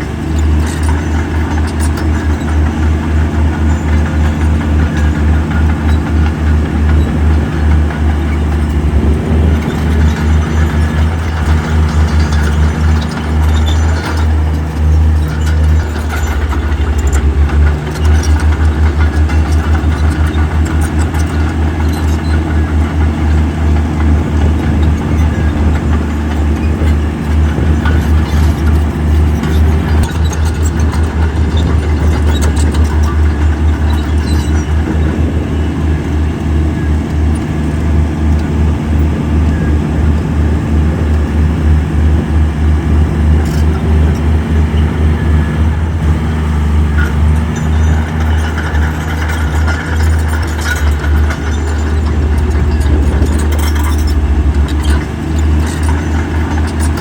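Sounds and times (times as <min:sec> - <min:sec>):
heavy machine diesel engine throbbing: 0:00.0 - 0:57.0.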